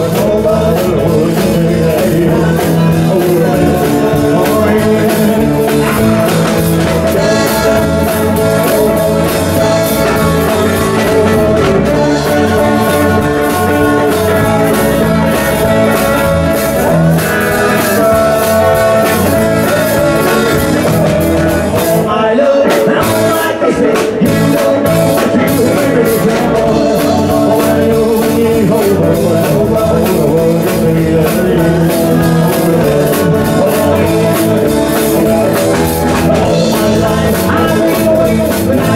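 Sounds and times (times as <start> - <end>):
electric guitar: 0.0 - 38.9
person singing: 0.0 - 38.9
rock band playing: 0.0 - 38.9.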